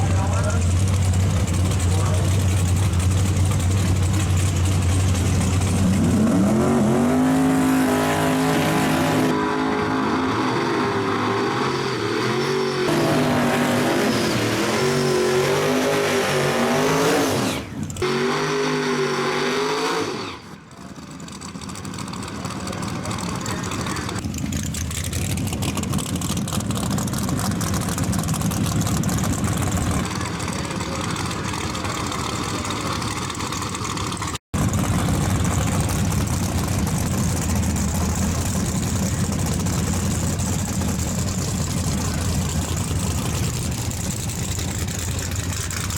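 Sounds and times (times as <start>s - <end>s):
car engine passing down track: 0.0s - 45.9s
racing car engines revving: 0.0s - 45.9s.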